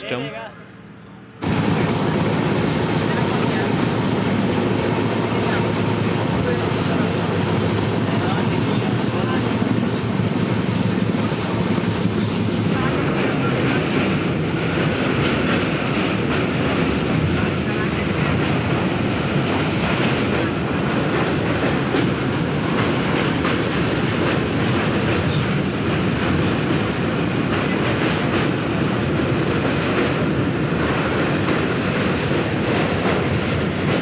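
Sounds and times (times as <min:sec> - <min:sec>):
train rumbling on a bridge: 0:00.0 - 0:34.0
wheels clattering on rails: 0:01.4 - 0:34.0.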